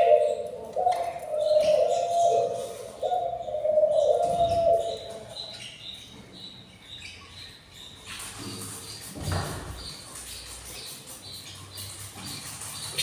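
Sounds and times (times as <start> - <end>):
budgies chirping: 0.0 - 13.0.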